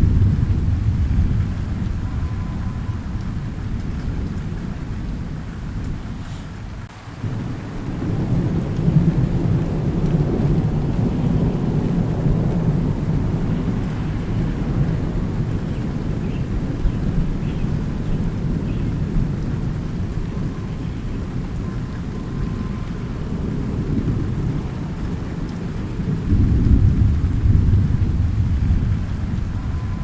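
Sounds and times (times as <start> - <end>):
rolling thunder: 0.0 - 30.0
steady rain: 0.0 - 30.0.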